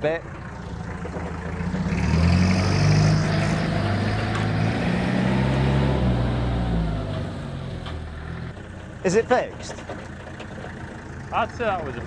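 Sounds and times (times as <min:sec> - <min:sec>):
diesel forklift engine running: 0:00.0 - 0:12.0.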